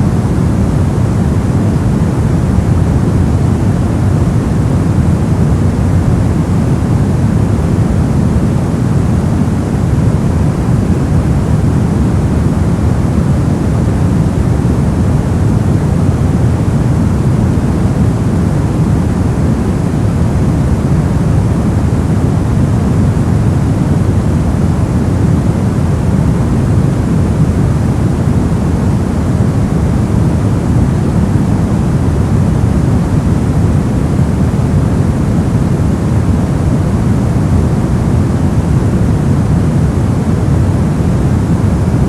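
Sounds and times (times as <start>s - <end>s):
deep white noise: 0.0s - 42.0s.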